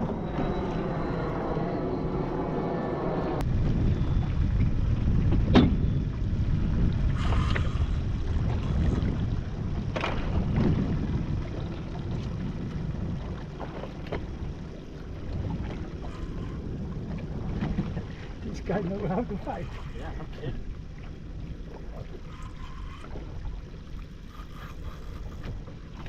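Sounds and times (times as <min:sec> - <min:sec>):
water noise: 0:00.0 - 0:26.0
wind buffeting microphone: 0:00.0 - 0:26.0.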